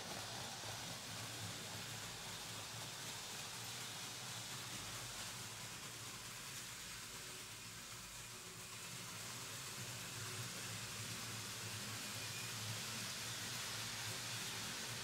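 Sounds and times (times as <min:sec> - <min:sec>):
model trains rumbling on track: 0:00.0 - 0:15.0.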